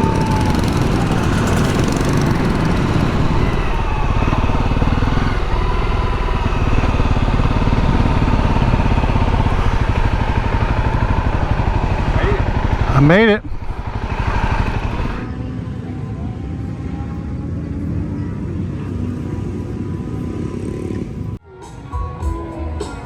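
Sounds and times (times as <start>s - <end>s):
motorcycle engine running: 0.0s - 21.4s.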